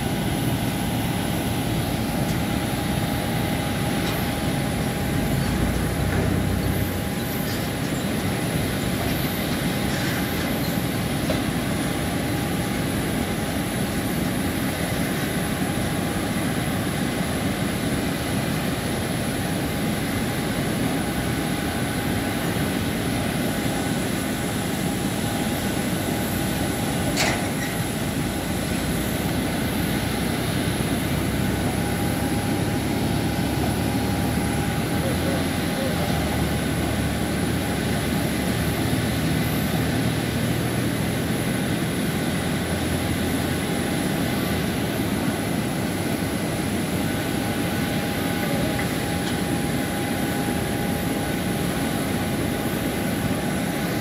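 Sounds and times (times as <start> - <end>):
airliner rushing drone and whine: 0.0 - 54.0.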